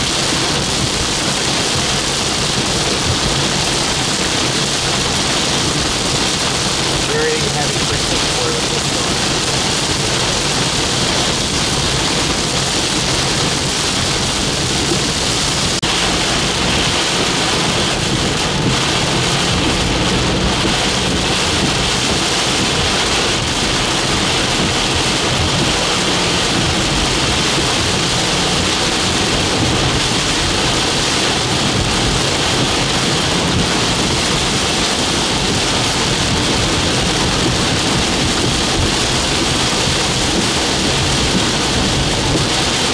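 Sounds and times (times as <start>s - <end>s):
heavy rain on a vehicle: 0.0s - 42.9s.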